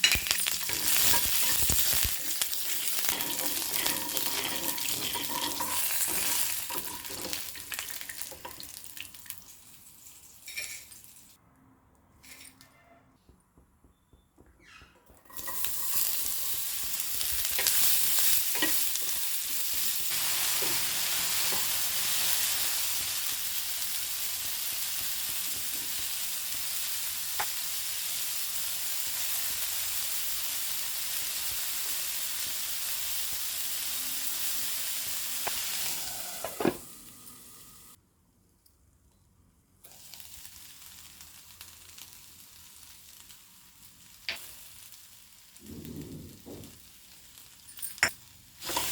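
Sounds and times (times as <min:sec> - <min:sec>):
food sizzling in hot oil: 0:00.0 - 0:11.4, 0:15.3 - 0:38.0, 0:39.9 - 0:45.7, 0:46.4 - 0:48.9.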